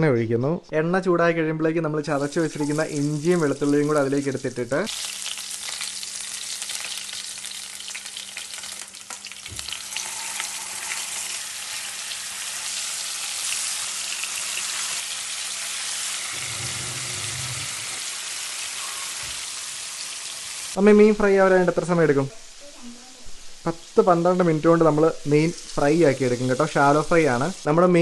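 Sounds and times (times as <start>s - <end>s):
oil sizzling in a frying pan: 2.1s - 28.0s.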